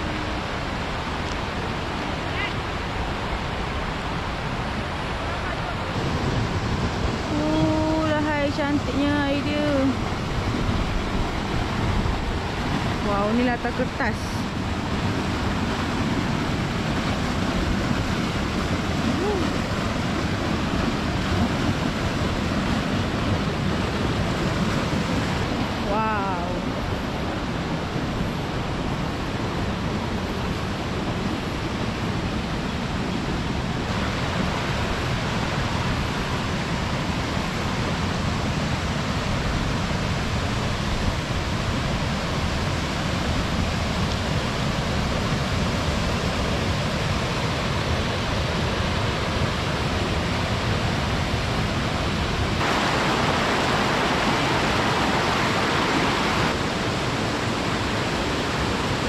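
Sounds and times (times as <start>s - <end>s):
waterfall rushing and splashing: 0.0s - 59.0s.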